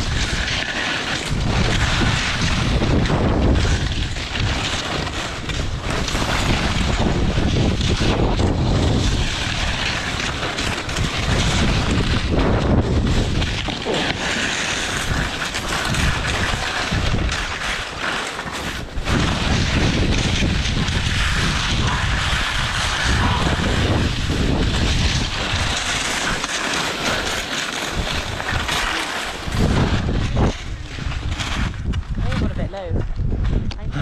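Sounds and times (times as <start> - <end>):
wind buffeting microphone: 0.0 - 17.8, 18.6 - 34.0
skis scraping on hard snow: 0.0 - 33.8.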